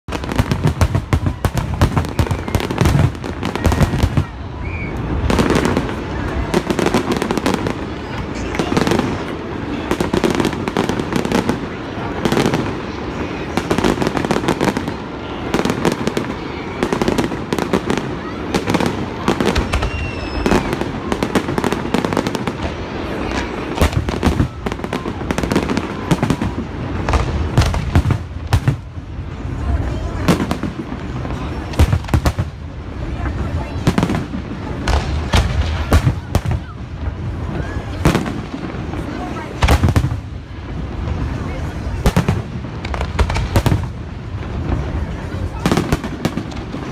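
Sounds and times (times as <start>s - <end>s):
fireworks crackling pops: 0.0s - 46.9s
continuous low rumble: 0.1s - 46.9s
fireworks bangs: 0.1s - 46.9s.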